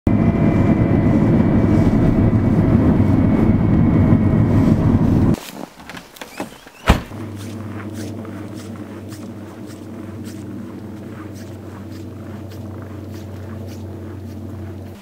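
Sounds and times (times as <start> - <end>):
vehicle engine droning: 0.1 - 5.4, 6.8 - 15.0
faint steady hum: 0.1 - 15.0.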